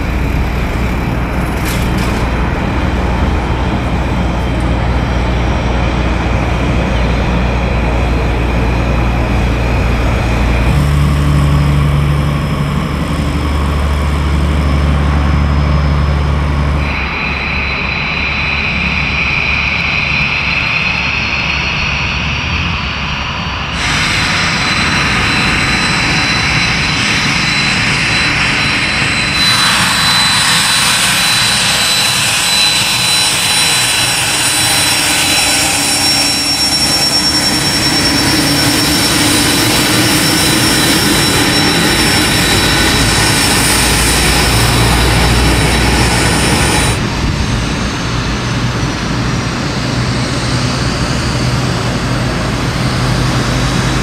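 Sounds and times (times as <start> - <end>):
jet engines whining: 0.0 - 54.0
propeller plane engine running: 0.0 - 54.0.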